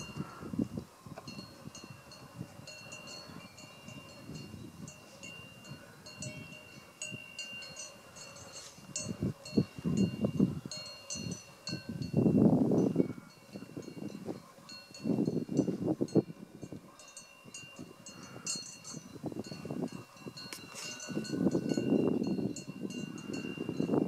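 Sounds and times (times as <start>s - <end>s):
wind buffeting microphone: 0.0s - 24.0s
cowbells clanking: 1.2s - 24.0s.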